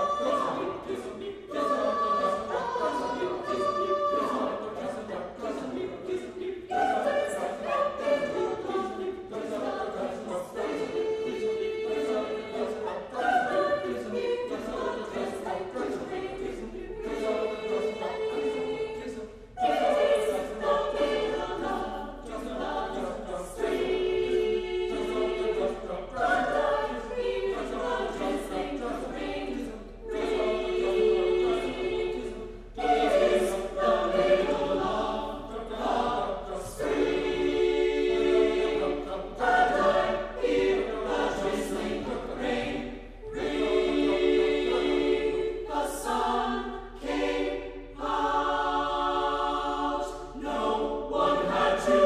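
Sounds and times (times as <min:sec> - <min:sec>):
choir singing a cappella: 0:00.0 - 0:52.0.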